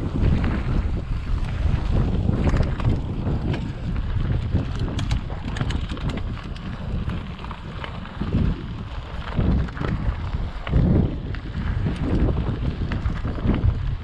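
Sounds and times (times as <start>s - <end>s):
bike clicks and rattles: 0.0s - 14.0s
wind buffeting microphone: 0.0s - 14.0s
tyres crunching on dirt: 0.1s - 14.0s.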